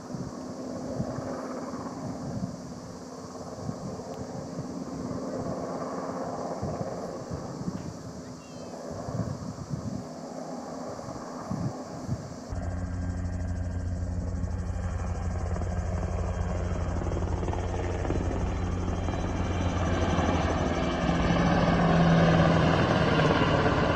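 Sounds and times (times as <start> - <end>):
helicopter rotor and engine: 0.0 - 23.9.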